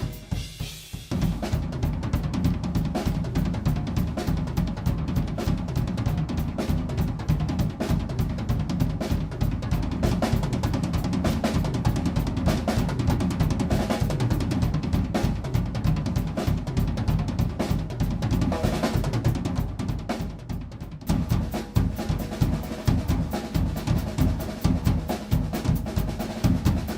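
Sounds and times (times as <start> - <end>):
drum kit solo: 0.0 - 26.9.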